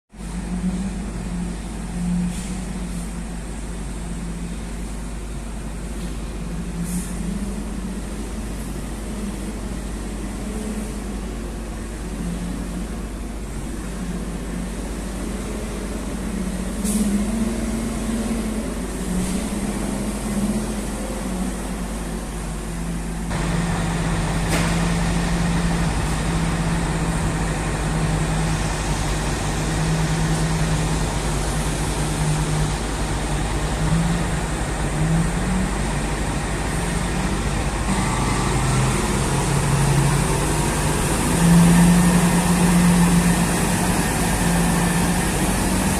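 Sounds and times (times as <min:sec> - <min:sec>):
diesel truck engine droning: 0:00.1 - 0:45.9.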